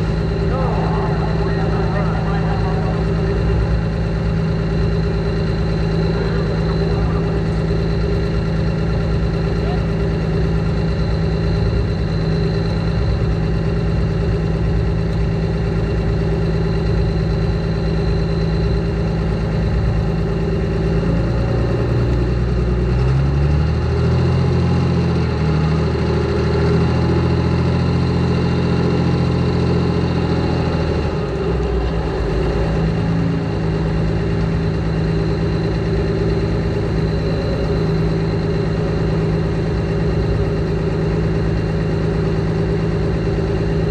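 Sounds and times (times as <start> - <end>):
diesel tractor engine revving: 0.0 - 43.9.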